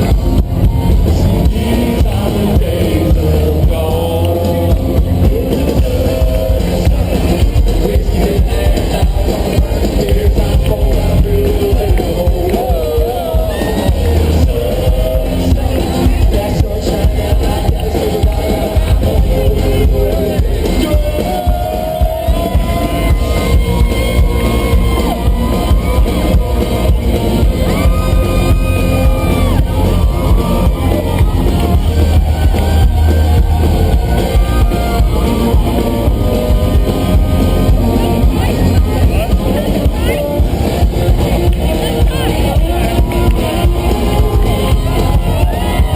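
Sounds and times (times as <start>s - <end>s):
country-rock band playing: 0.0s - 45.9s
crowd noise: 0.0s - 45.9s
person singing: 0.0s - 45.9s.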